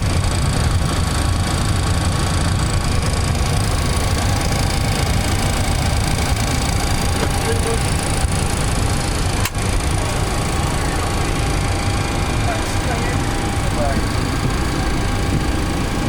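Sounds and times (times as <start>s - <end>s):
deep hum: 0.0s - 16.0s.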